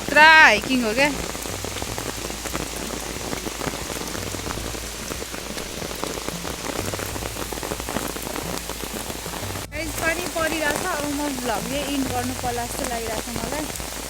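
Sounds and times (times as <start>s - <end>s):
rain pattering on surfaces: 0.0s - 14.0s.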